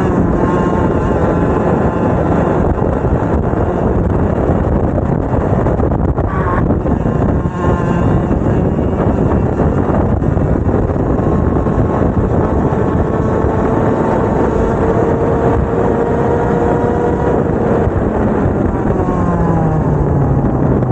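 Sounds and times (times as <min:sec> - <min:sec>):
two-stroke kart engine running: 0:00.0 - 0:20.9.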